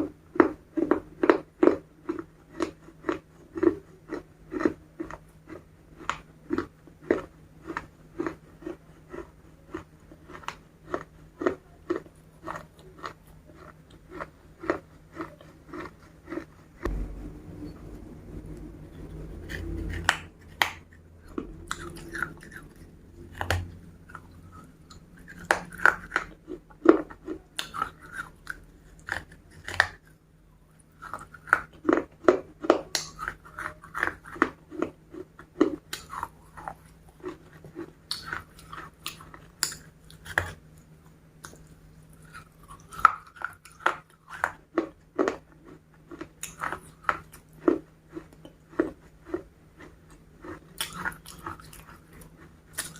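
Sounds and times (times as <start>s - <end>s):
crunchy chewing of fried chicken: 0.0s - 16.9s, 19.3s - 52.9s.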